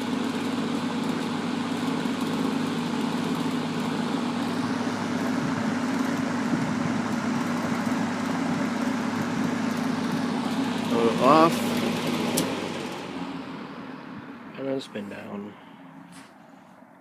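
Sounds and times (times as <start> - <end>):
rush of air from fan blades: 0.0 - 14.5
box fan motor humming: 0.0 - 17.0.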